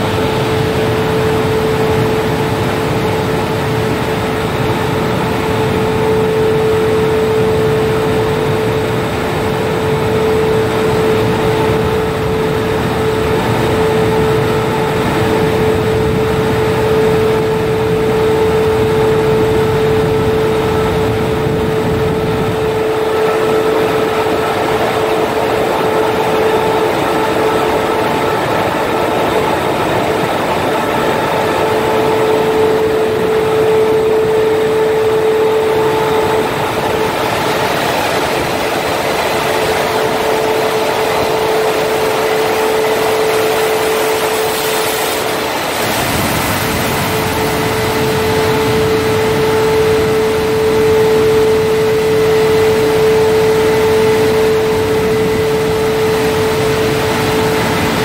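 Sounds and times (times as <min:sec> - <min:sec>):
blower dryer rushing air: 0:00.0 - 0:58.0.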